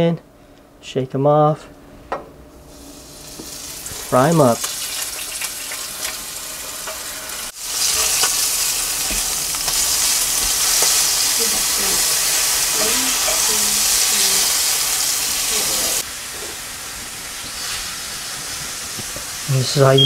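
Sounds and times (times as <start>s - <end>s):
prawns sizzling in oil: 2.7s - 20.0s.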